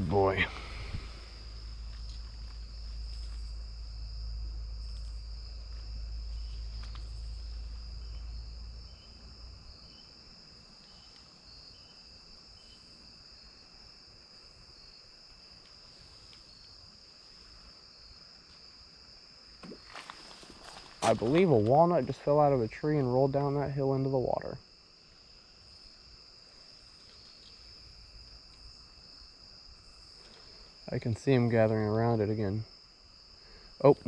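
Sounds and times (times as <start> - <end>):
faint pulsing insect call: 0.0 - 34.0
insects trilling: 0.0 - 34.0.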